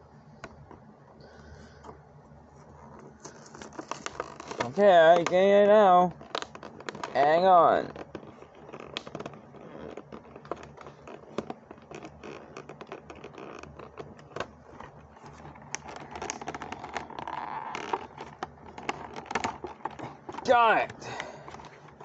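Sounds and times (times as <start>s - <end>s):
hand scraping plastic packaging: 1.4s - 22.0s.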